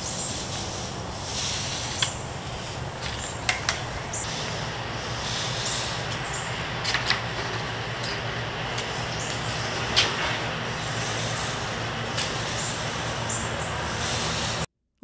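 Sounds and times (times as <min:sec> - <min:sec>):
paint roller on concrete: 0:00.0 - 0:14.7
steady low hum: 0:00.0 - 0:14.7.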